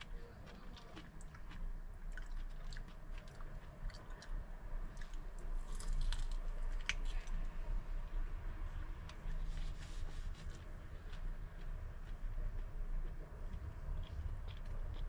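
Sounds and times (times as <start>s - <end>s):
person chewing food: 0.0s - 7.5s, 9.8s - 15.0s.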